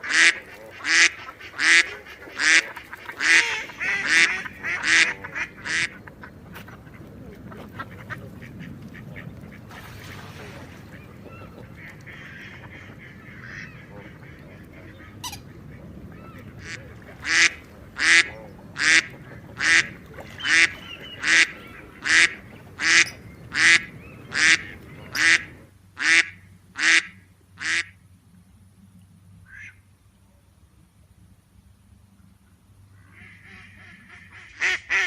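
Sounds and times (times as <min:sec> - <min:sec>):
waterfowl calling: 0:00.0 - 0:28.0, 0:29.4 - 0:29.8, 0:32.9 - 0:35.0.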